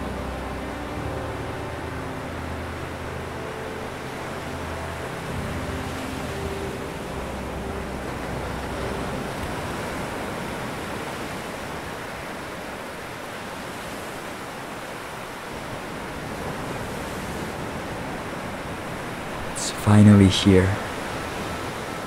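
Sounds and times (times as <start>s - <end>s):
ocean surf on a beach: 0.0s - 22.0s.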